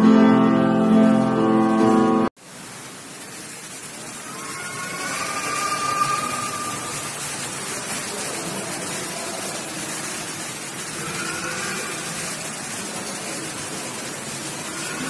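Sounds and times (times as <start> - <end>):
fountain water splashing: 0.8 - 15.0.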